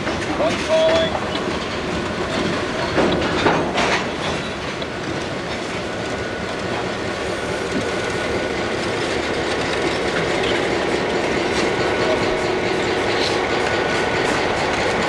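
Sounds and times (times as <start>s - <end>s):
train wheels clicking over rail joints: 0.0s - 15.0s.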